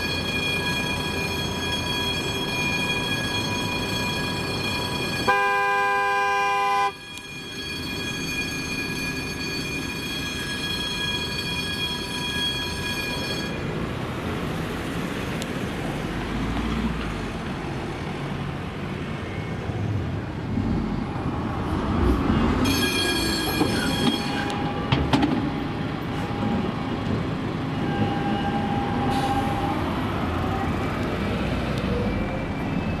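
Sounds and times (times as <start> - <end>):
tram wheels squealing on rails: 0.0 - 5.3, 6.9 - 15.2, 17.1 - 33.0
traffic noise: 0.0 - 33.0.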